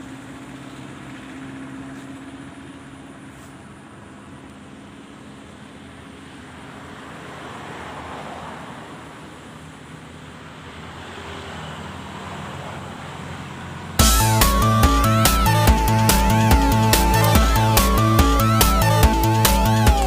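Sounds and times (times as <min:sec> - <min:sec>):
steady engine hum: 0:00.0 - 0:20.0.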